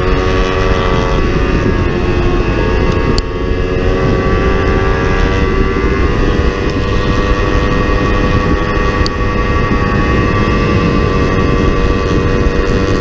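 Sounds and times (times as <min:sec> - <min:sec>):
motorcycle engine running hard: 0:00.0 - 0:13.0
wind rushing: 0:00.0 - 0:13.0.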